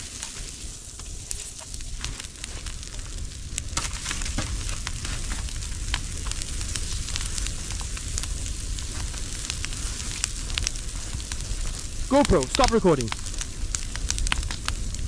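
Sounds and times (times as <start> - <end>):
bonfire hissing and crackling: 0.0 - 15.0.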